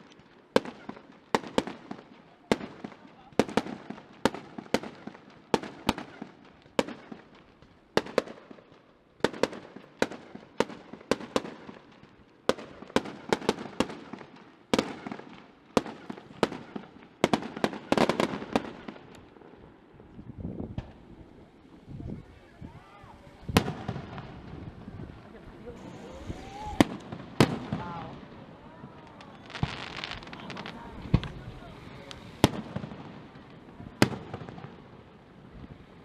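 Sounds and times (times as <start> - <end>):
fireworks bangs echoing: 0.0 - 19.9, 23.2 - 36.0.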